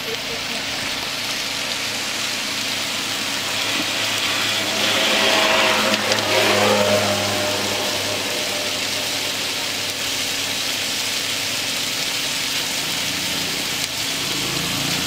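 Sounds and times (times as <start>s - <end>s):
food sizzling in iron pan: 0.0s - 15.0s
low hum: 0.5s - 14.2s.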